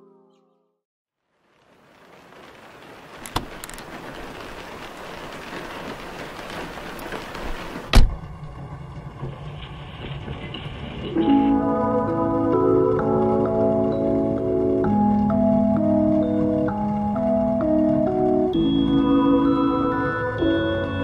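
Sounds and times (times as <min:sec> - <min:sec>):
rain-like hiss: 0:01.2 - 0:20.9.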